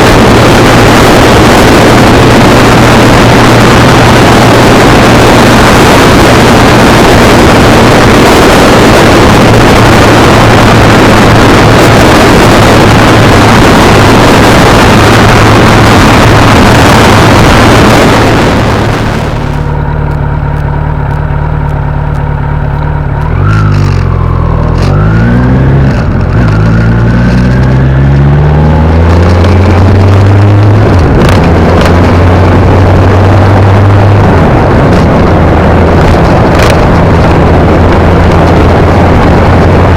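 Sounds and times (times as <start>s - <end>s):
wind noise: 0.0s - 20.2s, 23.1s - 39.9s
motorcycle engine revving: 0.0s - 39.9s.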